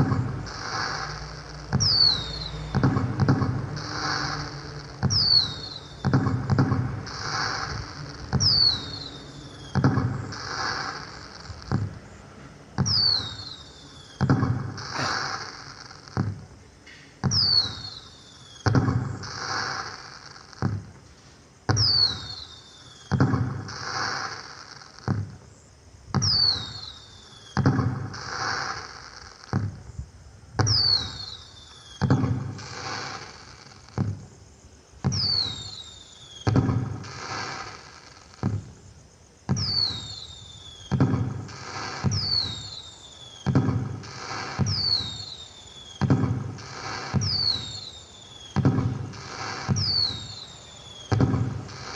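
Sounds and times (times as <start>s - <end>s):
firework whistles: 0.0s - 12.2s, 12.8s - 16.4s, 17.1s - 21.0s, 21.7s - 25.5s, 26.1s - 29.9s, 30.6s - 34.4s, 35.0s - 38.9s, 39.5s - 51.9s
firework bangs and crackling: 0.0s - 51.9s.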